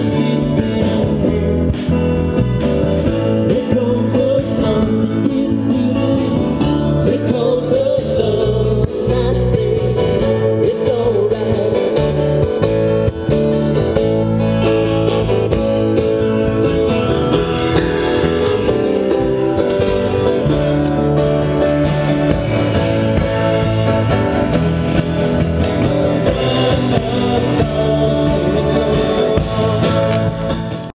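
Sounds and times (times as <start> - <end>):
live band playing: 0.0 - 30.9
strummed acoustic guitars: 0.0 - 30.9.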